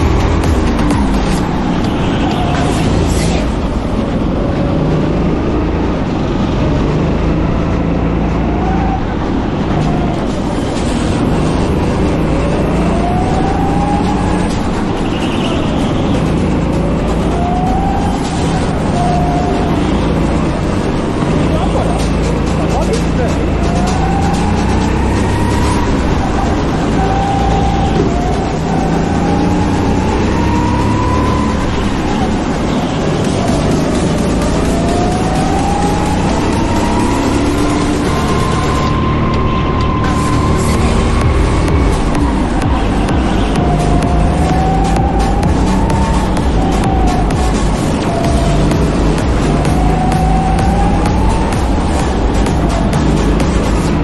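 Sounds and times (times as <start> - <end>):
go-kart engine running: 0.0 - 54.0
loud steady rushing noise: 0.0 - 54.0.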